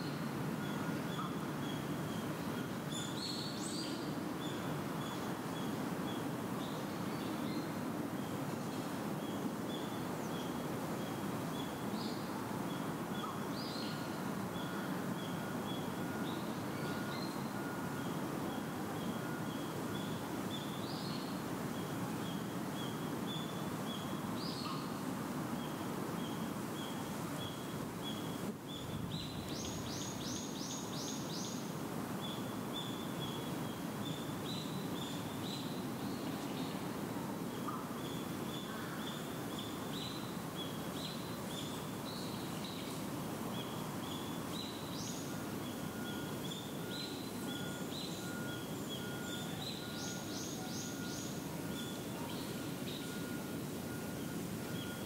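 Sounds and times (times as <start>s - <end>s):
steady low background noise: 0.0s - 55.0s.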